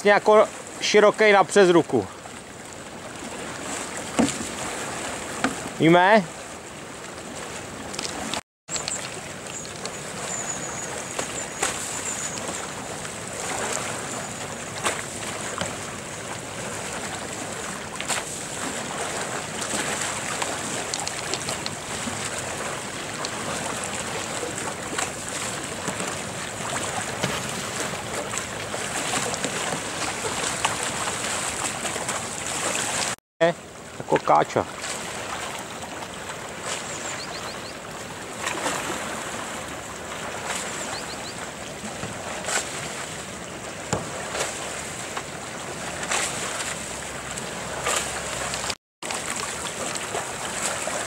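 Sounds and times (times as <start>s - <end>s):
short splashes: 0.0s - 6.6s, 7.3s - 33.2s, 34.0s - 51.0s
kayak paddles splashing: 0.0s - 51.0s
rush of water: 0.0s - 51.0s
water sloshing around hulls: 0.0s - 51.0s.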